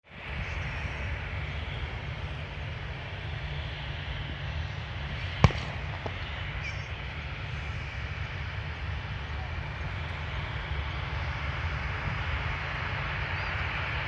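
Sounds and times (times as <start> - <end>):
jet airliner rumble and hiss: 0.0 - 14.0.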